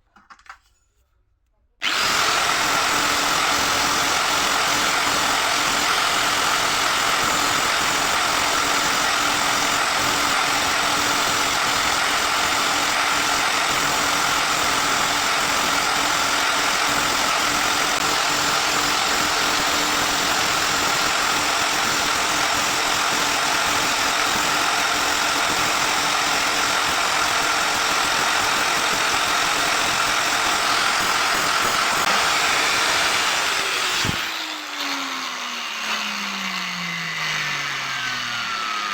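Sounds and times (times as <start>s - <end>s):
power tool motor whining: 1.8s - 38.9s.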